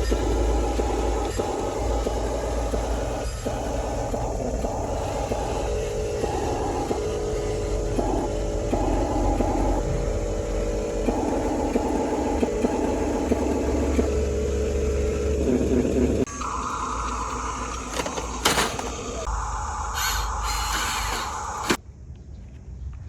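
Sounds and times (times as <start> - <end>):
small electric motors whirring: 0.0 - 21.8
steady low hum: 0.0 - 22.1.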